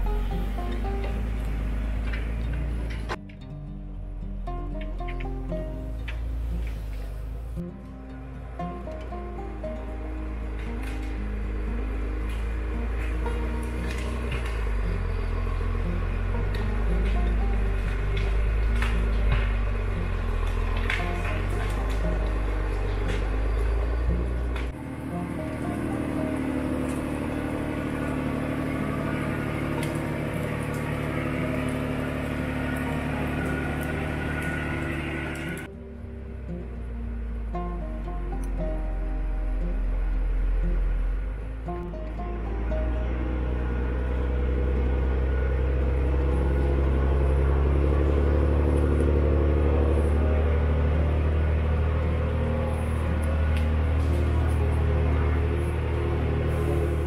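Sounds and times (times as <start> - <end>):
machine engine running steadily: 0.0 - 3.2, 4.1 - 57.0.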